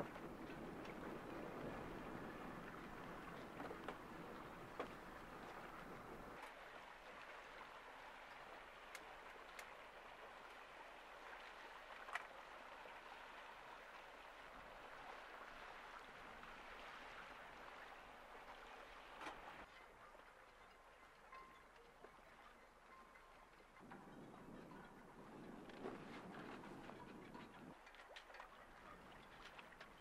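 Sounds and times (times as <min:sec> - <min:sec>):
faint water lapping: 0:00.0 - 0:30.0.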